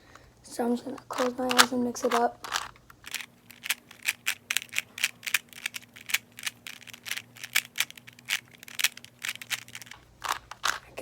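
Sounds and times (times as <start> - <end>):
puzzle cube clicking: 1.0 - 11.0.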